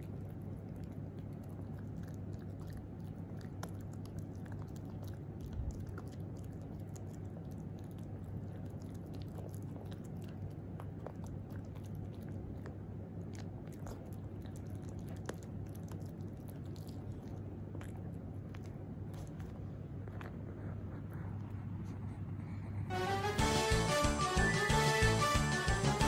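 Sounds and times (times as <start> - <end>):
puppy chewing with crunches: 0.0 - 22.7
steady low hum: 0.0 - 26.0.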